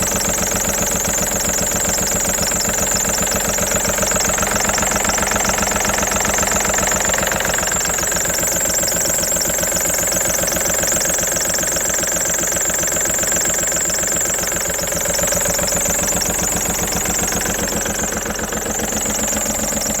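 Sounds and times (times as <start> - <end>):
diesel engine idling: 0.0 - 20.0
high-pitched engine whine: 0.0 - 20.0.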